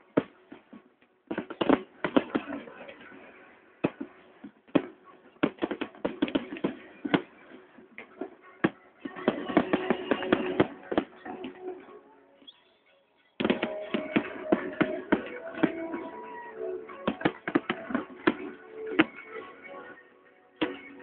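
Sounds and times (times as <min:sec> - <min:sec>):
fireworks bangs and crackles: 0:00.0 - 0:11.8, 0:13.4 - 0:19.6.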